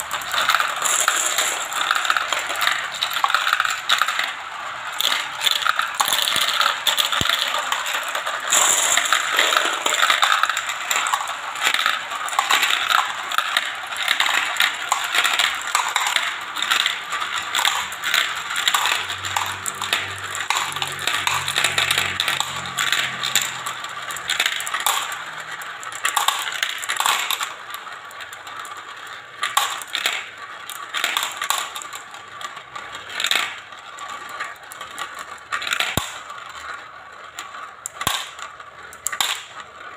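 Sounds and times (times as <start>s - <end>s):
marbles rattling and clicking: 0.0s - 39.9s.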